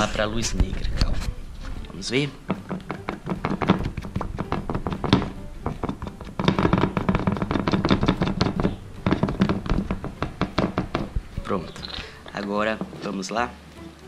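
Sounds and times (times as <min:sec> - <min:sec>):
fingers kneading dough on plate: 0:00.0 - 0:13.2
music: 0:00.0 - 0:14.0.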